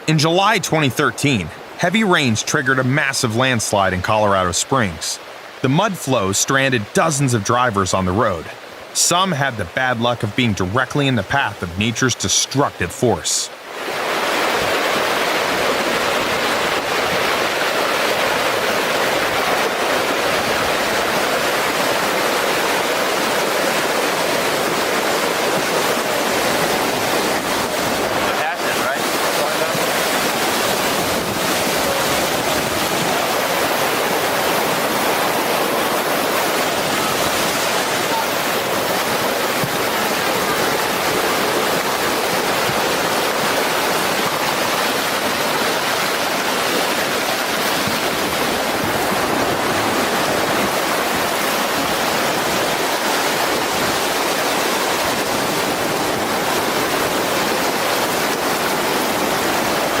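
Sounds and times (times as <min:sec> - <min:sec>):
floodwater rushing: 0:00.0 - 1:00.0.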